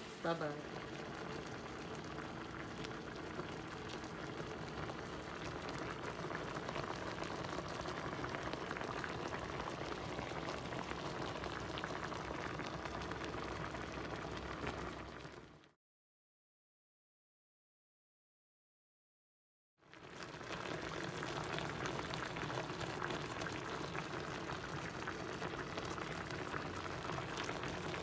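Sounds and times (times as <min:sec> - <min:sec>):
gravy bubbling and popping: 0:00.2 - 0:15.7, 0:19.8 - 0:28.0.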